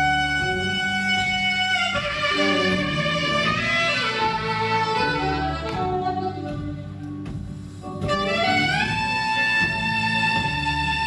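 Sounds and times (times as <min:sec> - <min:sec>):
bass: 0:00.0 - 0:11.0
drums: 0:00.0 - 0:11.0
lead melody instrument: 0:00.0 - 0:11.0.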